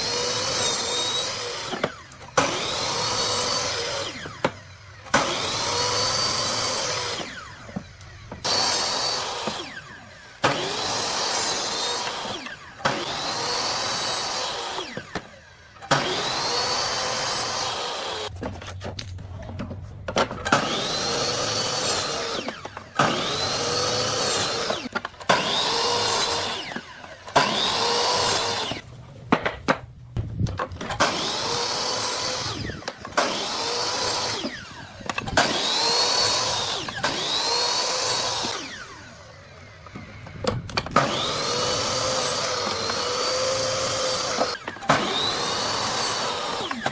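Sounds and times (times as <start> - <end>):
electric power tool motor bursts: 0.0 - 18.3, 20.4 - 28.8, 30.9 - 46.9.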